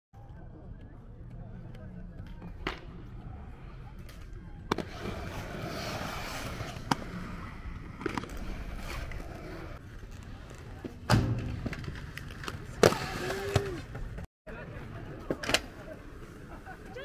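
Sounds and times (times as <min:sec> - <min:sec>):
skate wheels rolling on concrete: 0:00.2 - 0:17.0.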